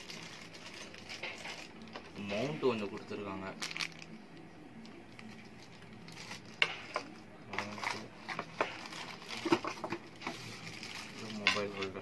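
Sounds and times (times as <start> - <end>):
plastic packaging crinkling: 0.0 - 4.4, 5.1 - 12.0.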